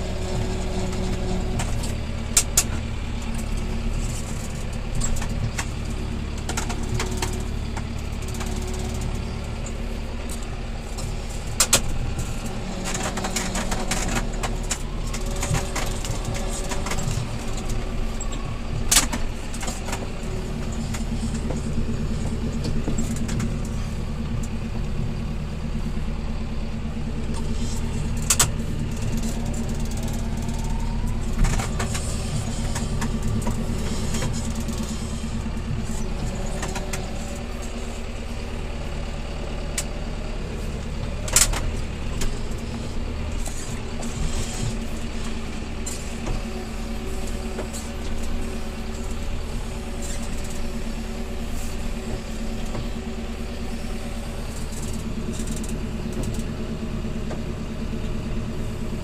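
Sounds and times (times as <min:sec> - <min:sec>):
tractor engine droning: 0:00.0 - 0:59.0.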